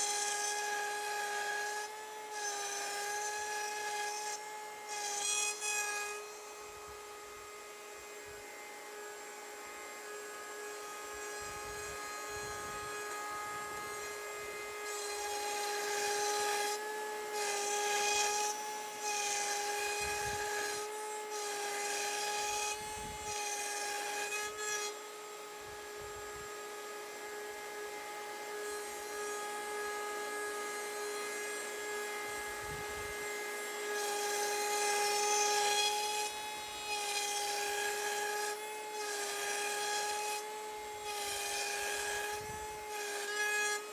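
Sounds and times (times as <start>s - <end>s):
router bit cutting wood: 0.0s - 43.9s
router whining: 0.0s - 43.9s.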